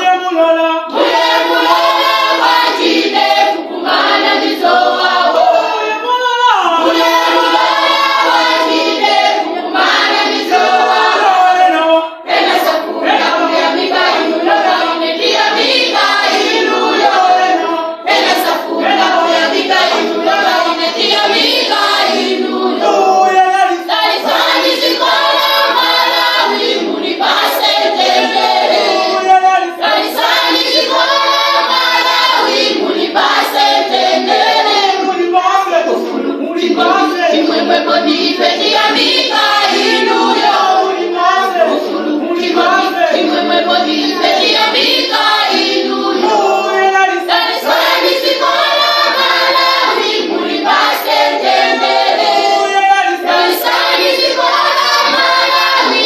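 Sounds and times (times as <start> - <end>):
congregation singing a praise song: 0.0 - 56.0.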